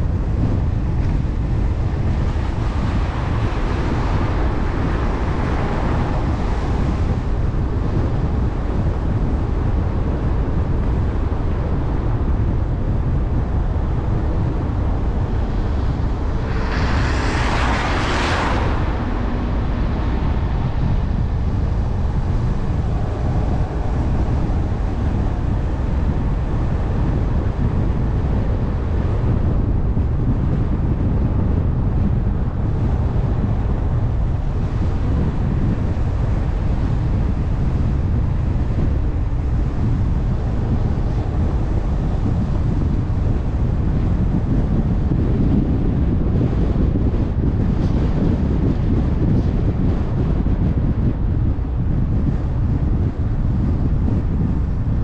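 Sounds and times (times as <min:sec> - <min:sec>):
road noise rumble: 0:00.0 - 0:55.0
wind buffeting microphone: 0:00.0 - 0:55.0.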